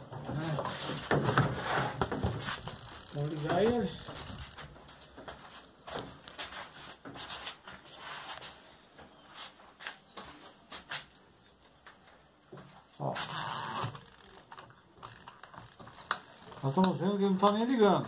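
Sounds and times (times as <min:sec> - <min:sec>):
faint irregular clicks and rustles: 0:00.0 - 0:18.0.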